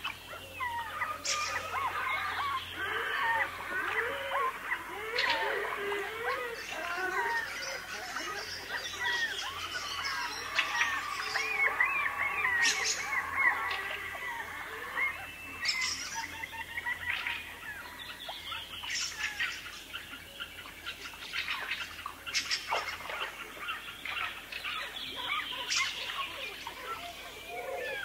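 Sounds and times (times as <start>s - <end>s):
wild birds chirping and whistling: 0.0s - 28.0s.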